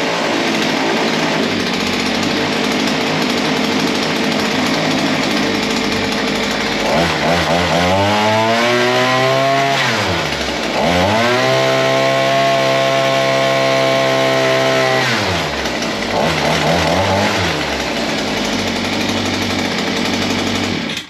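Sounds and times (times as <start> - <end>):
two-stroke tiller engine running: 0.0 - 21.0.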